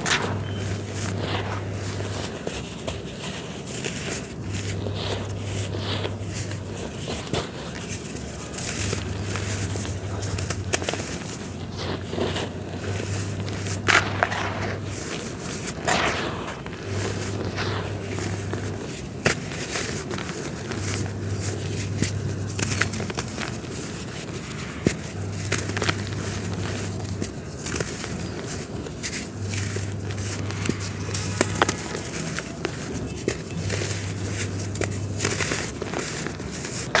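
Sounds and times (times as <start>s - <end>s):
dry dirt crackling and crunching: 0.0s - 37.0s.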